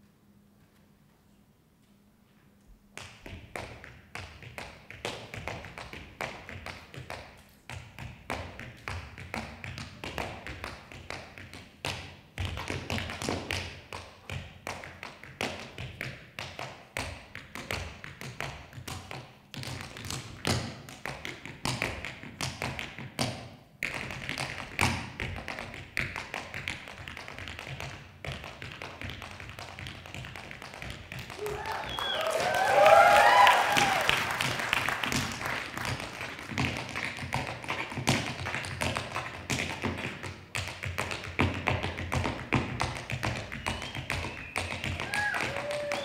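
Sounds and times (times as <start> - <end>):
tap shoes on stage floor: 2.7 - 46.0.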